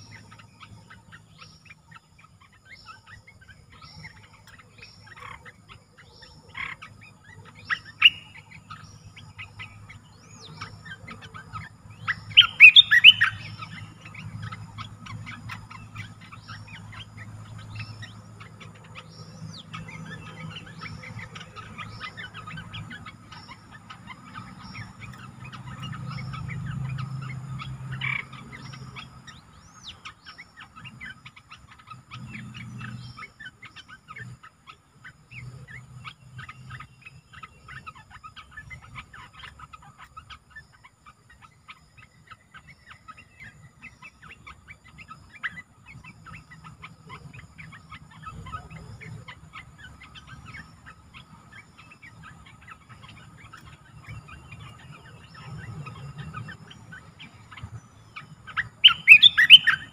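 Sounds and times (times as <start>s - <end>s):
bulbuls chirping and whistling: 0.0s - 59.9s.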